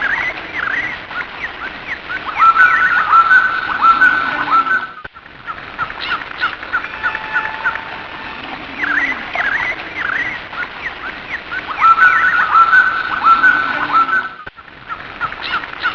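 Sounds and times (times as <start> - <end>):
birds chirping and calling: 0.0 - 15.9
steady background hiss: 0.0 - 15.9.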